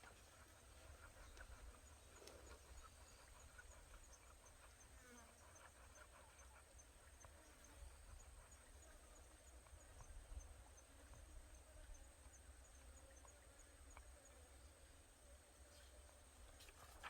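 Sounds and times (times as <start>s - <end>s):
faint ticks: 0.0s - 14.5s.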